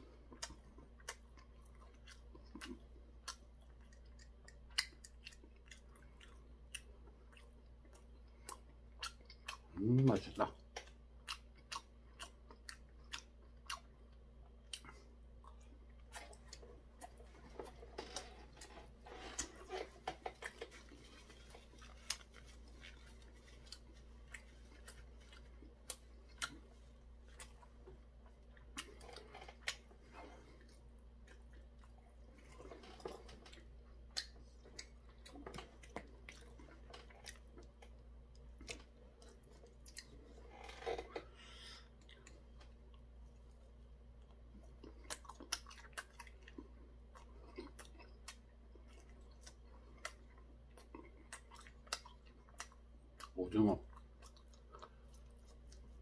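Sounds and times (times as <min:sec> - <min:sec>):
person chewing crispy snacks: 0:00.0 - 0:56.0.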